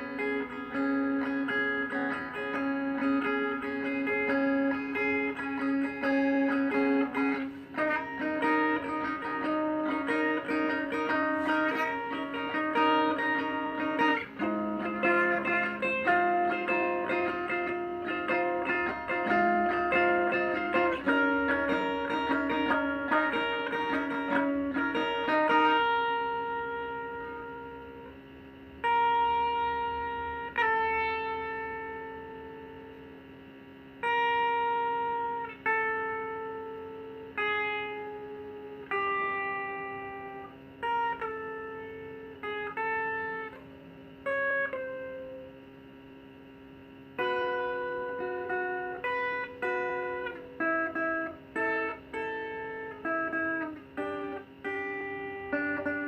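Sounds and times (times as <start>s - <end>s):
guitar plucked slowly: 0.0s - 56.0s.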